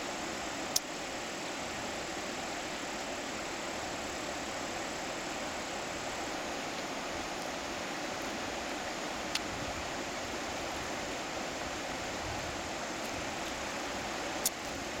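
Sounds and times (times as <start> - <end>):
river water rushing over falls: 0.0 - 15.0.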